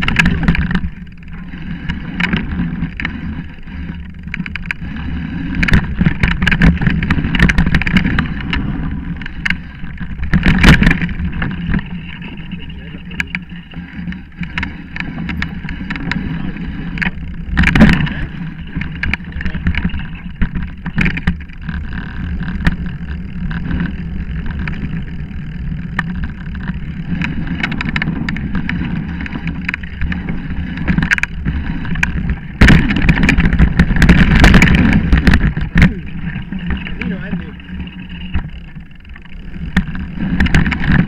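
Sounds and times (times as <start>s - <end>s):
bike rattling: 0.0s - 41.0s
bike tyres rumbling on dirt: 0.0s - 41.0s.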